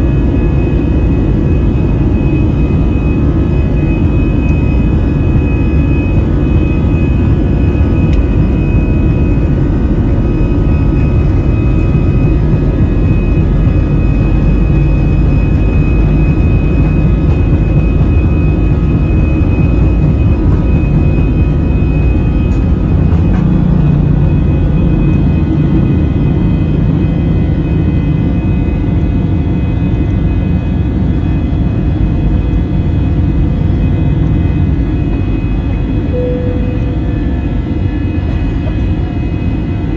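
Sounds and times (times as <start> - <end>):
high jet engine whine: 0.0 - 39.9
jet engine rumbling rush: 0.0 - 39.9.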